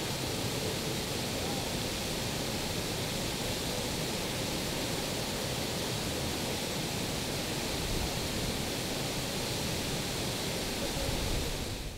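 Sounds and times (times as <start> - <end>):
steady rushing hiss: 0.0 - 11.9.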